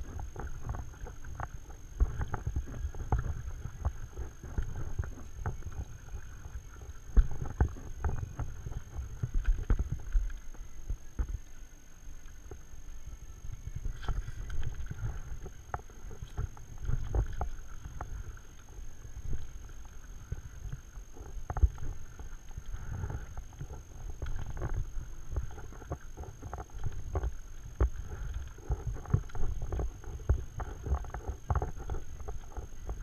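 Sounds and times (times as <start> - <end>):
paddle splashing in water: 0.0 - 11.5, 13.5 - 33.0
wind rumble on microphone: 0.0 - 33.0.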